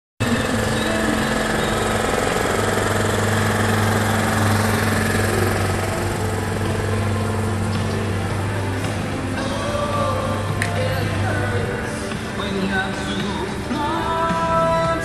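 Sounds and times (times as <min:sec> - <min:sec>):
car engine idling: 0:00.2 - 0:15.0.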